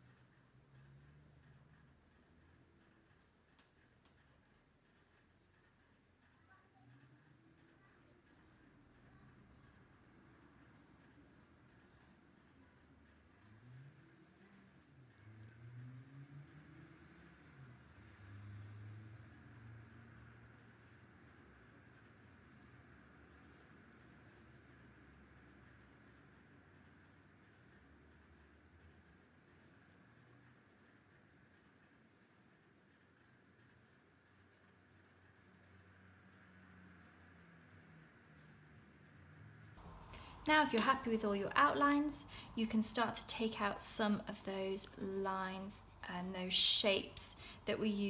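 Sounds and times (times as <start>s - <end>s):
pencil scratching on paper: 0.0s - 42.4s
faint low hum: 0.0s - 48.0s.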